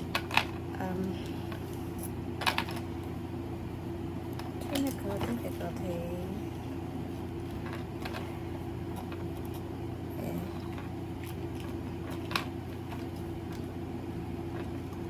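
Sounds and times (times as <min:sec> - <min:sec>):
electric fan hum: 0:00.0 - 0:15.0.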